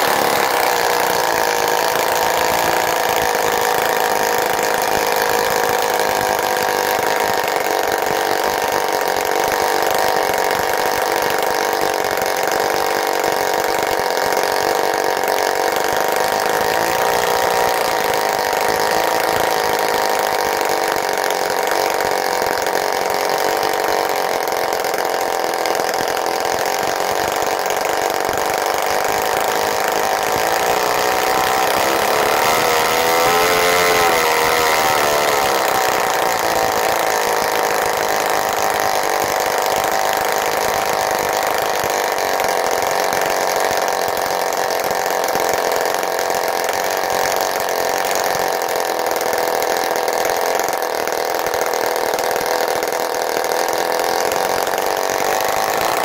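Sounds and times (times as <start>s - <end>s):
model airplane engine running: 0.0s - 56.0s.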